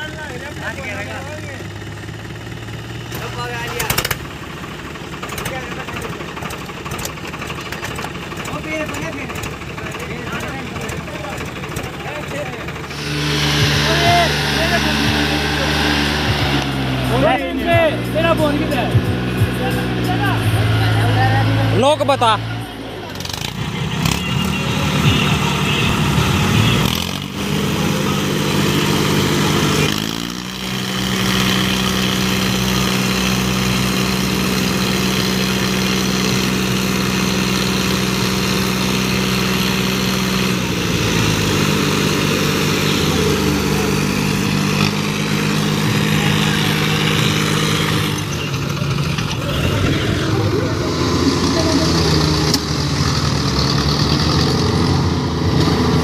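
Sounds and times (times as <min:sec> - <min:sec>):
tractor engines revving under load: 0:00.0 - 0:56.0.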